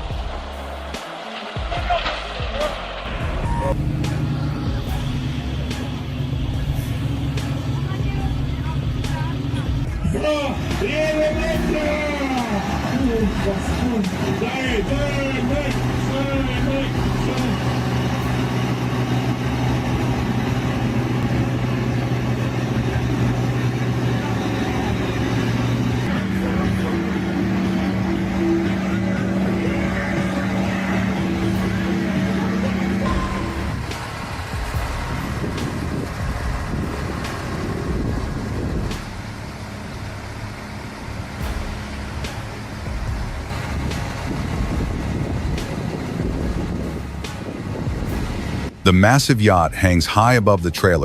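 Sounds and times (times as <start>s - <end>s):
vehicle engine humming: 0.0s - 51.0s.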